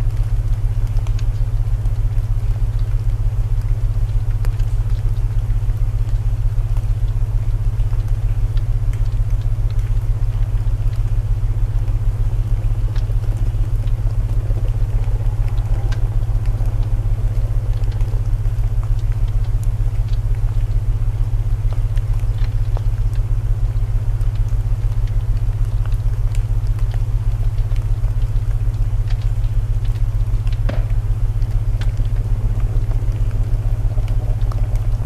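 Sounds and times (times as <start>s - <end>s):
burning wood crackles: 0.0s - 35.0s
pulsing low binaural drone: 0.0s - 35.0s
rain hiss: 0.0s - 35.0s.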